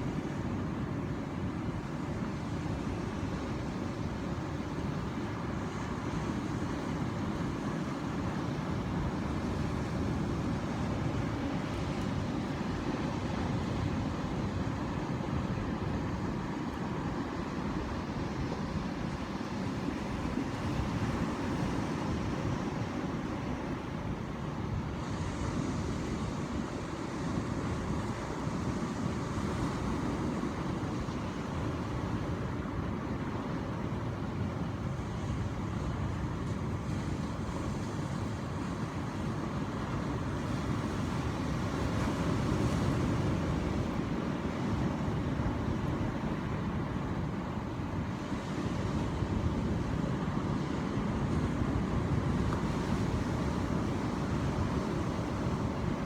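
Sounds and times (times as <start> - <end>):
ocean waves surf: 0.0 - 56.0.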